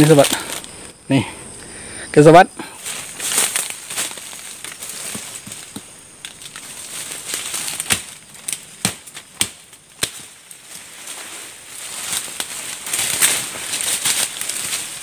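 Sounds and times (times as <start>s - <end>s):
sticks crackling and snapping: 0.0s - 0.8s, 2.8s - 15.0s.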